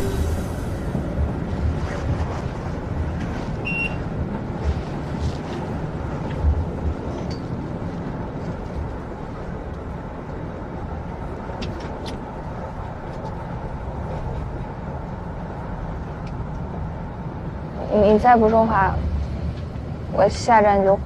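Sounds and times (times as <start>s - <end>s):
tram rumbling: 0.0s - 21.0s.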